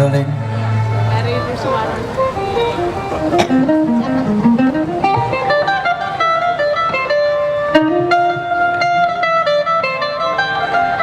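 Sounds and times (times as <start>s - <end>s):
mandolin melody: 0.5s - 11.0s.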